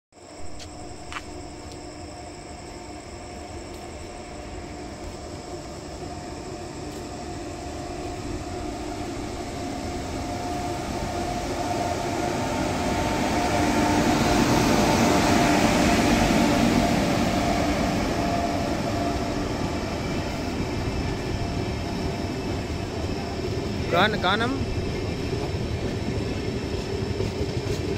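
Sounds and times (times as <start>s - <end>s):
electric locomotive hum: 0.2s - 27.9s
train coaches rolling: 4.4s - 27.9s.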